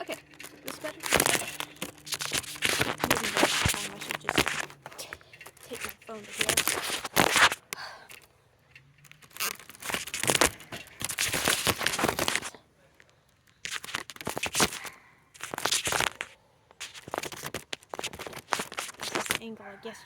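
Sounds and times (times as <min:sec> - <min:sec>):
phone microphone handling noise: 0:00.0 - 0:12.6, 0:13.6 - 0:19.5.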